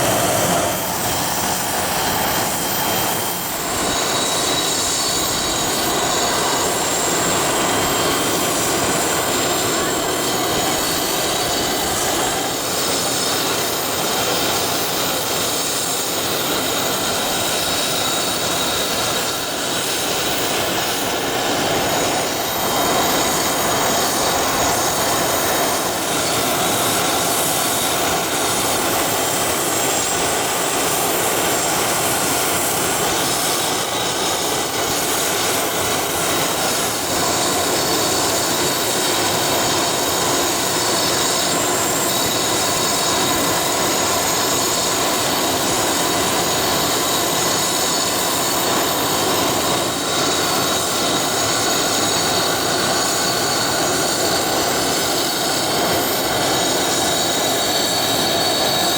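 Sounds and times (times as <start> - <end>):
jet engines whining: 0.0 - 58.9.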